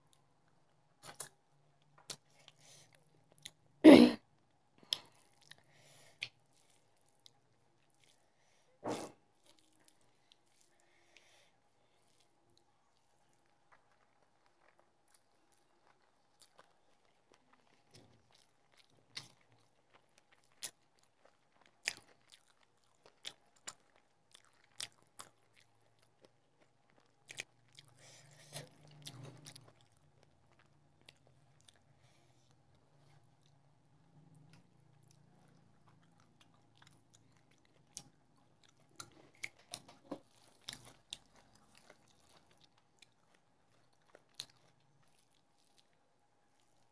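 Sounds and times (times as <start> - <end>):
person chewing: 1.0 - 3.6, 4.8 - 8.3, 11.9 - 46.9.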